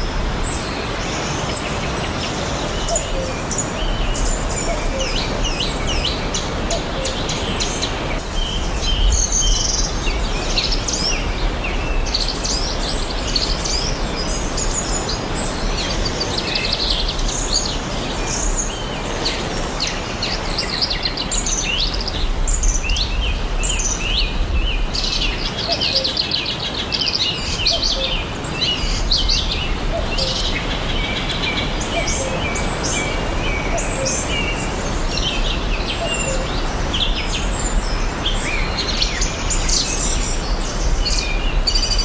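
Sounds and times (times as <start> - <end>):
songbirds chirping and singing: 0.0 - 42.0.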